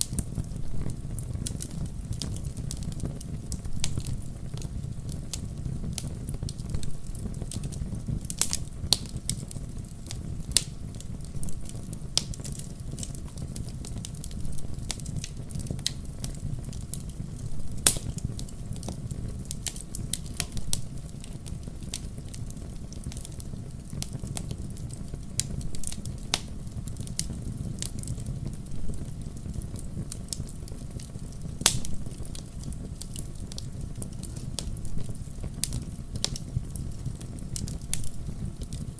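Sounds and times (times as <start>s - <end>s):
fire crackling and popping: 0.0s - 38.9s
wood fire flames rumbling: 0.0s - 38.9s.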